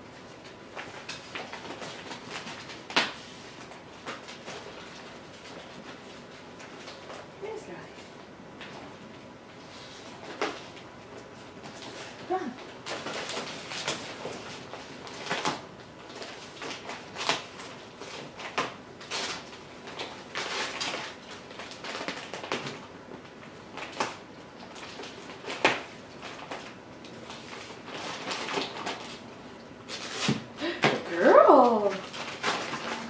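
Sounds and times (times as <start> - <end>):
wrapping paper crinkling and tearing: 0.1 - 7.3, 11.6 - 33.0.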